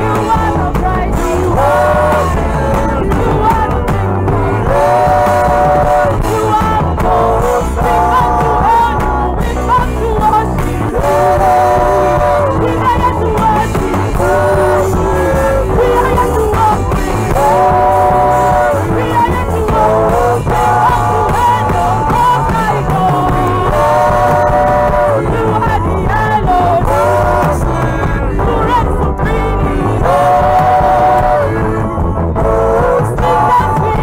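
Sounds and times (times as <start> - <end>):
backing vocalists: 0.0 - 34.0
instrumental backing with bass: 0.0 - 34.0
woman singing lead: 0.0 - 34.0.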